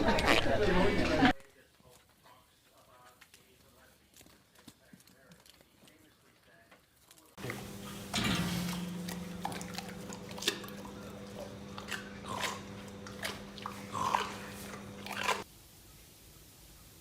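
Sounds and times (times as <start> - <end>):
animal chewing and crunching: 1.4 - 15.5.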